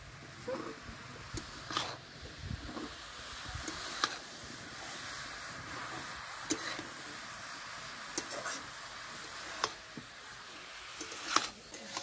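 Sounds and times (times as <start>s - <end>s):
carrots sizzling in a pan: 0.0s - 12.0s.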